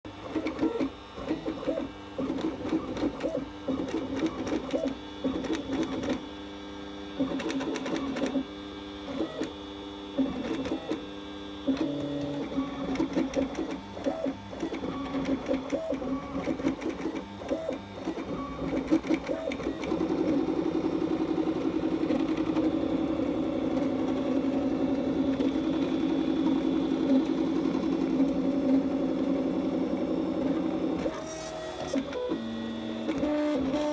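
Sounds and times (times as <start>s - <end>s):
printer stepper motors buzzing: 0.1s - 33.9s.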